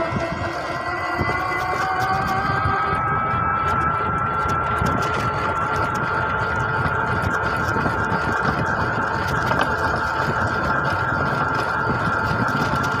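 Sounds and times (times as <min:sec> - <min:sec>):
engine rumbling: 0:00.0 - 0:13.0
engine whine: 0:00.0 - 0:13.0.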